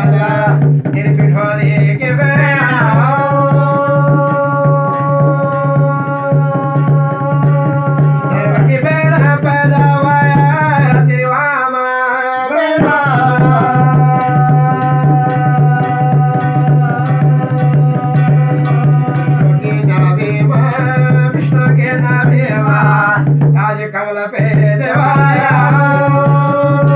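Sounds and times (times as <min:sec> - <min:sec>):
hand drum beaten quickly: 0:00.0 - 0:11.4, 0:12.6 - 0:26.9
man singing long notes: 0:00.0 - 0:26.9.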